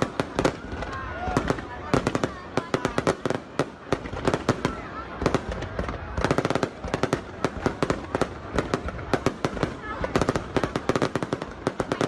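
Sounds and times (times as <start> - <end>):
faint voices: 0.0 - 12.0
fireworks bangs and cracks: 0.0 - 12.0.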